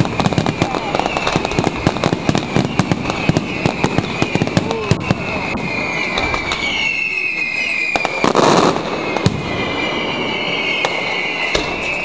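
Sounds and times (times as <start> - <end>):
fireworks bangs: 0.0 - 12.0
fireworks crackling burst: 0.0 - 12.0
fireworks whistling: 0.0 - 12.0.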